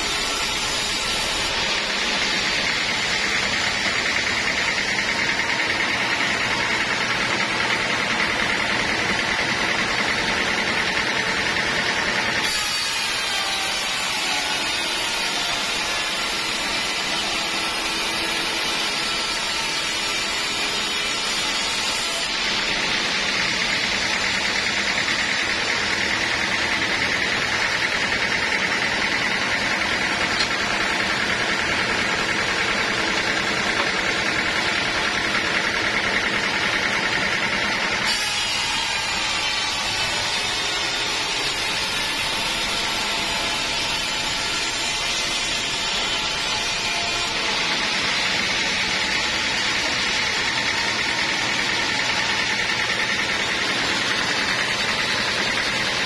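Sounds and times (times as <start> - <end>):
saw cutting wood: 0.0 - 56.0
sawmill saw running: 0.0 - 56.0.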